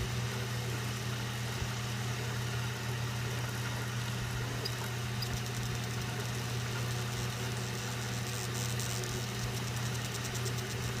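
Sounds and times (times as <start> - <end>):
machine low hum: 0.0 - 11.0.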